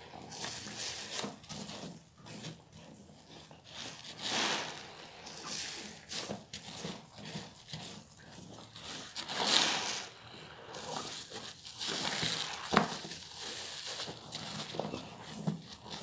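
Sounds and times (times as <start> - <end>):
sponge squishing in soap suds: 0.2 - 16.0.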